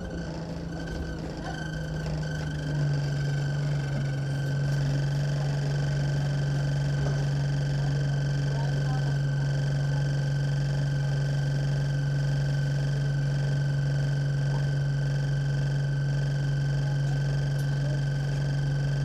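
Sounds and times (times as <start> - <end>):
bus engine hum from inside: 0.0 - 19.0.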